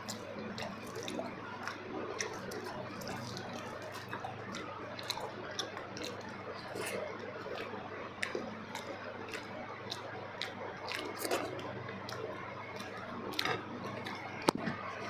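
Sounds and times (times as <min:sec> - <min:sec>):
chewing wet food: 0:00.0 - 0:15.0.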